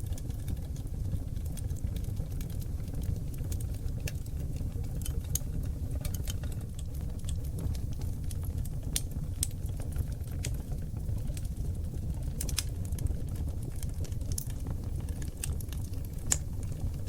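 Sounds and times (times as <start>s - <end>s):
wood fire roaring and crackling: 0.0s - 17.0s.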